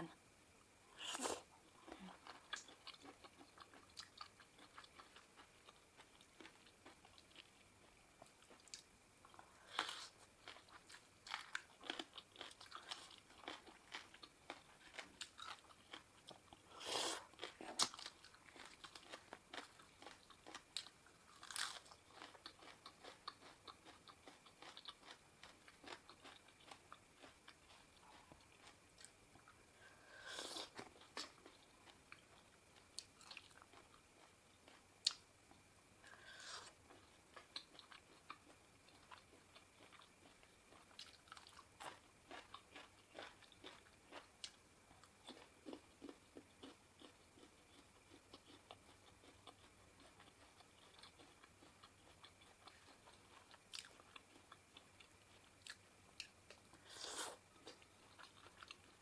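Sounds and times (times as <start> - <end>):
person chewing and crunching food: 1.0 - 59.0.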